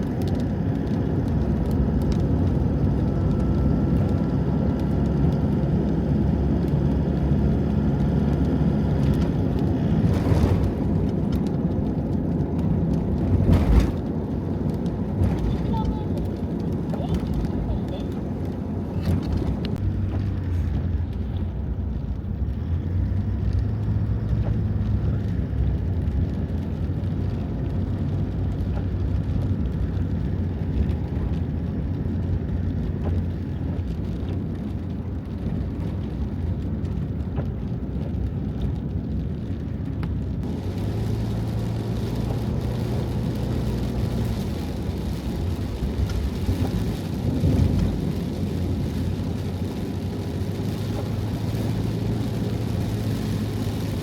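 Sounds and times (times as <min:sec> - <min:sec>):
rain rumbling on a van: 0:00.0 - 0:54.0
vehicle rumble: 0:00.0 - 0:54.0.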